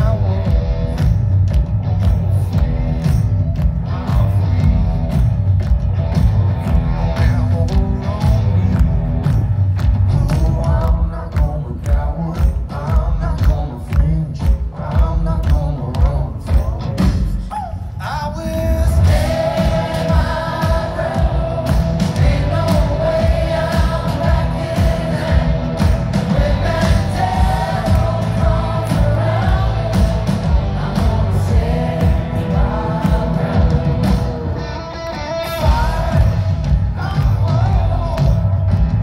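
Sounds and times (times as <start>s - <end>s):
man singing: 0.0s - 1.1s, 2.4s - 4.9s, 7.1s - 8.9s, 10.0s - 34.2s, 34.8s - 38.7s
live rock band: 0.0s - 39.0s.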